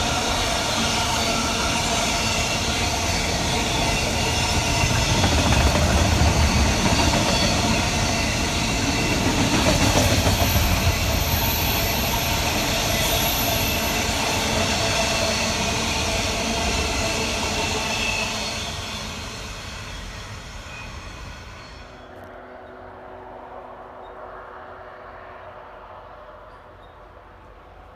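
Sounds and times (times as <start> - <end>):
train rail rumble: 0.0 - 27.9.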